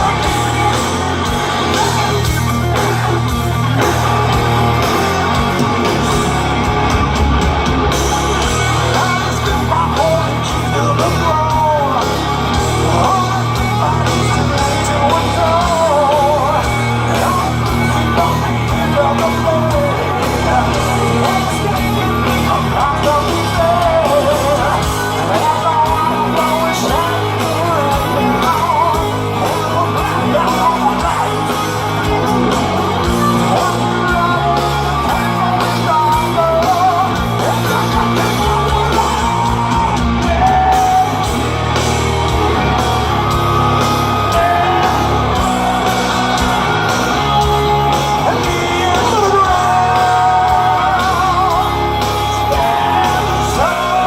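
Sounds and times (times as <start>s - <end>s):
heavy metal band playing: 0.0s - 54.0s
person singing: 8.5s - 54.0s.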